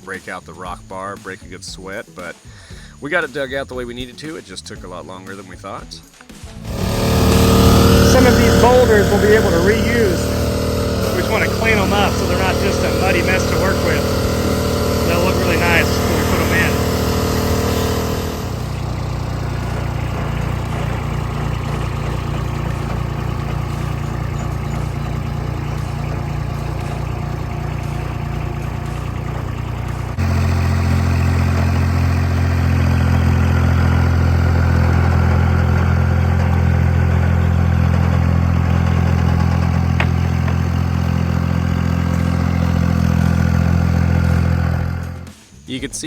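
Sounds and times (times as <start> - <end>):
engine running steadily: 6.5 - 45.4
louder lower engine sound: 6.6 - 45.4.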